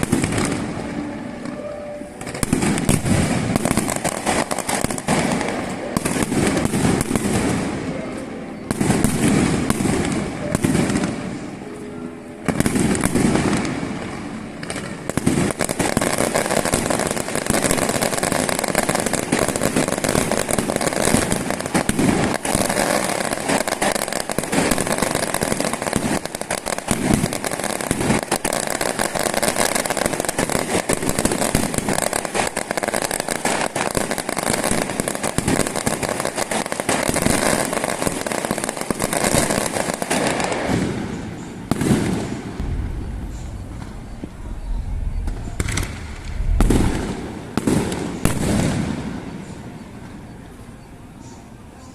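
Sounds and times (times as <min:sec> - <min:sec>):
fireworks crackling and popping: 0:00.0 - 0:51.9.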